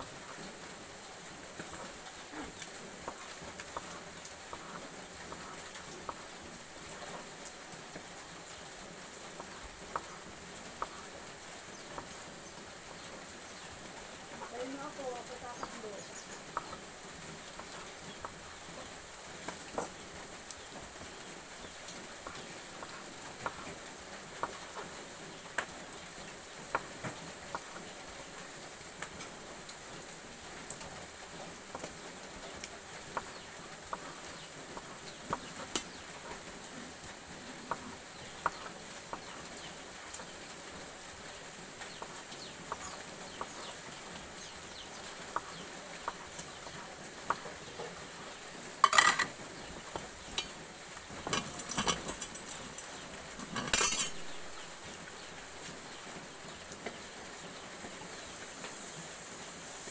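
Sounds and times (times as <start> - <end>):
low hiss: 0.0 - 59.9.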